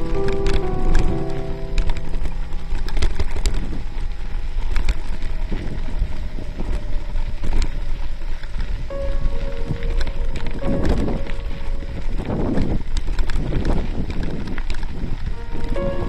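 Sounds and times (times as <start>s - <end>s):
bicycle clicks and rattles: 0.0s - 16.0s
wind buffeting microphone: 0.0s - 16.0s.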